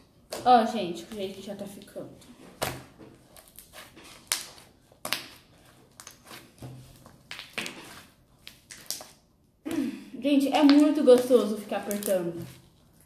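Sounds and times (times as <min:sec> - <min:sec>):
slime squelching: 0:00.0 - 0:13.0.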